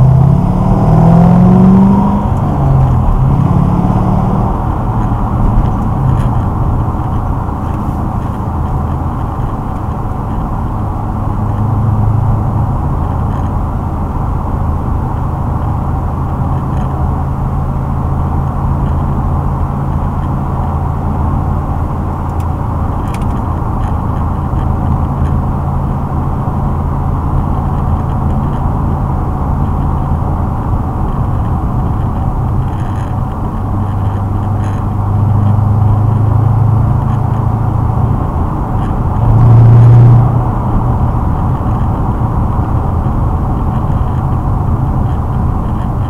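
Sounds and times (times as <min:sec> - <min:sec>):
car exhaust low drone: 0:00.0 - 0:46.0.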